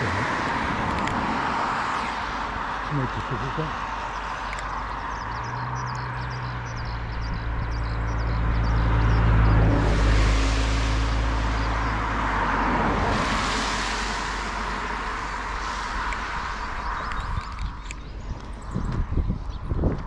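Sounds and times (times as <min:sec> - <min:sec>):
vehicle passing by: 0:00.0 - 0:19.8.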